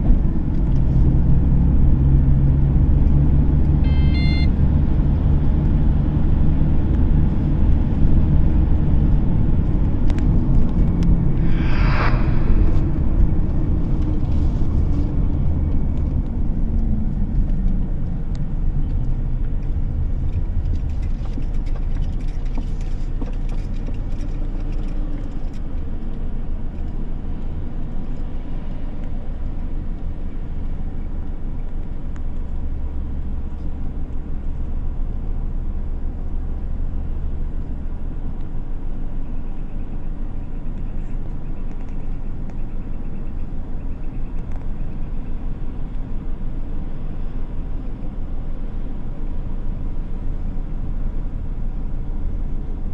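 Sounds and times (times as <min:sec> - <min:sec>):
car engine and tyre rumble: 0:00.0 - 0:52.9.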